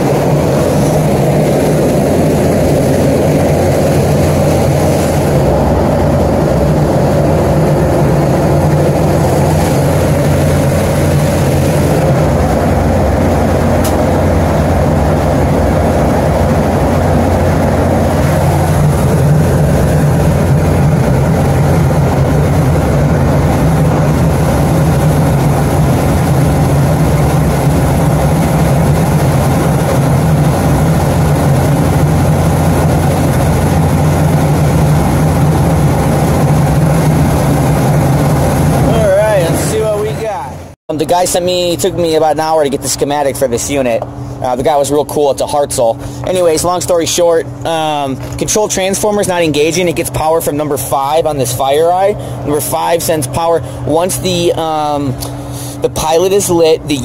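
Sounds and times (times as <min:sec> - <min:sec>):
blower fan humming: 0:00.0 - 0:57.0.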